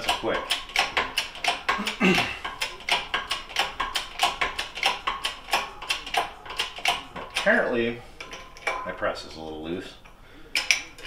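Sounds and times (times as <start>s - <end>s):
hand pump clicking and clattering: 0.0s - 11.0s.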